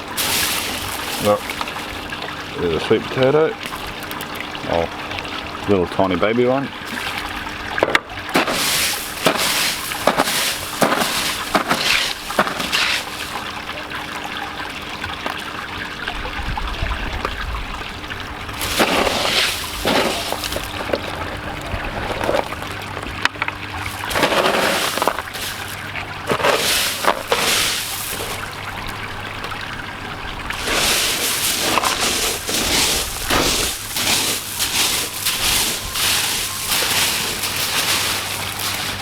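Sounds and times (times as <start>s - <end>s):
hands rummaging in wet gravel: 0.0s - 4.4s, 6.8s - 14.1s, 18.5s - 29.6s, 30.4s - 39.0s
water splashing: 0.0s - 39.0s
water trickling: 0.0s - 39.0s.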